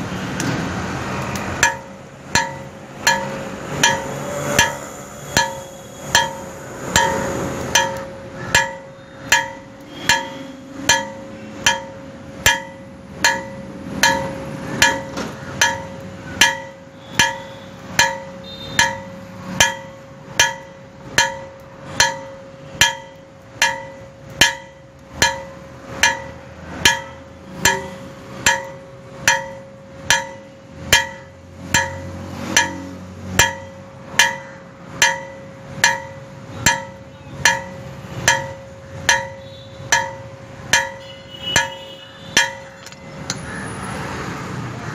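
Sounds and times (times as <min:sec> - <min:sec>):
hammer striking steel on anvil: 0:01.3 - 0:43.4.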